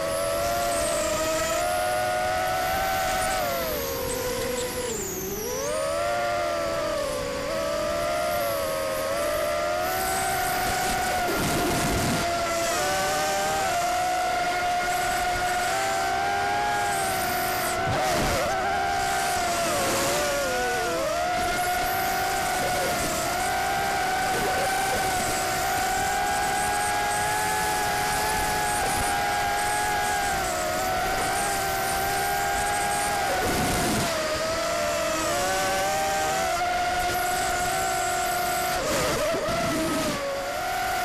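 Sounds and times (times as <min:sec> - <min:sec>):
quadcopter propellers whining: 0:00.0 - 0:41.0.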